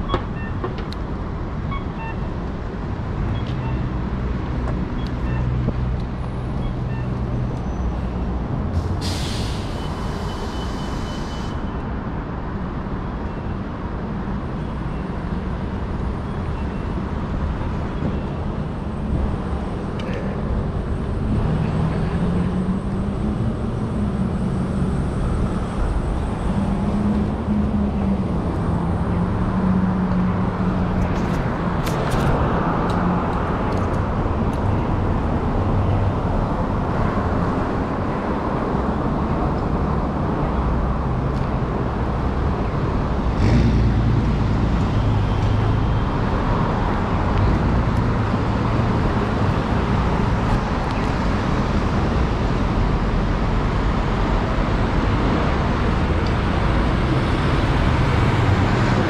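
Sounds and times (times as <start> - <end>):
bus passing: 0.0 - 59.0
city street traffic: 0.0 - 59.0.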